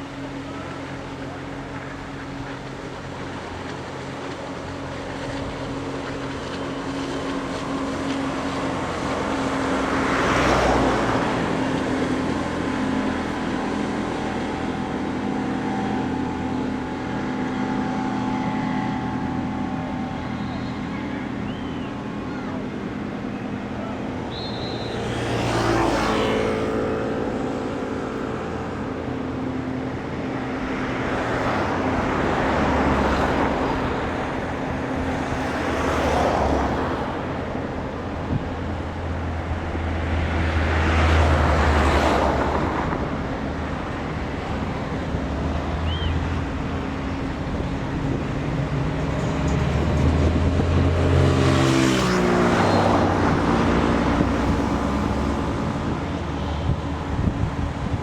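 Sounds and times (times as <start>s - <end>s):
speedboat engine passing: 0.0s - 58.0s.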